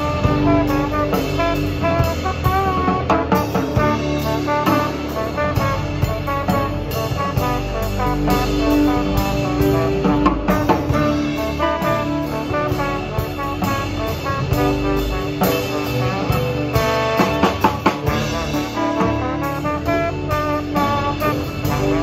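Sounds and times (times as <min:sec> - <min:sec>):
drum kit: 0:00.0 - 0:22.0
electric bass: 0:00.0 - 0:22.0
trombone sustained notes: 0:00.0 - 0:22.0.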